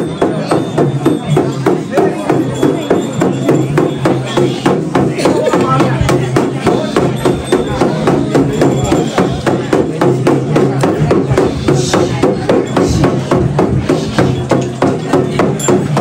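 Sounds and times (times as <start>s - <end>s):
frame drum beaten fast: 0.0s - 16.0s.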